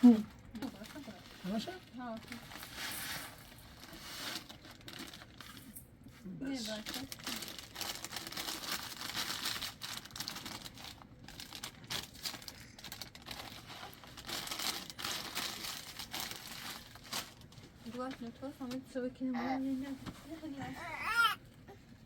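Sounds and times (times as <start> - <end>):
plastic packaging crinkling: 0.0 - 5.8, 6.5 - 18.8.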